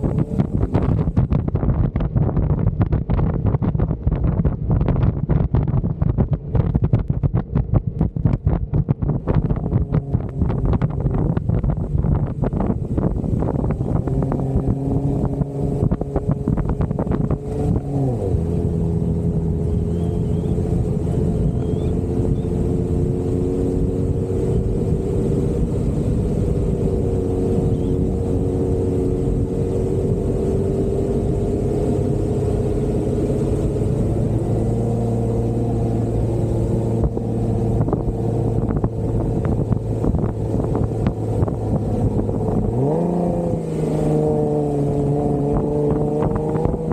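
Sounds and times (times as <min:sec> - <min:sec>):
car engine running off-road: 0:00.0 - 0:46.9.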